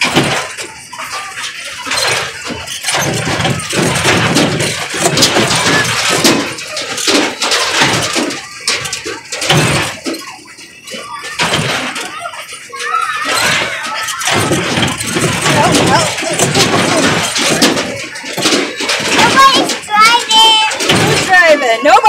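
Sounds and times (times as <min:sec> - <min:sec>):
ride car clattering: 0:00.0 - 0:22.0.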